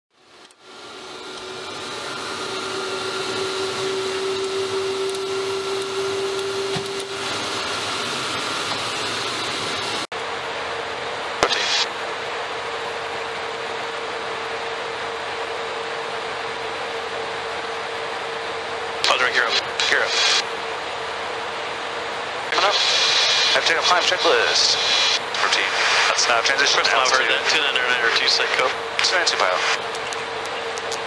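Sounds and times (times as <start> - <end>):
steady whine: 0.2 - 31.0.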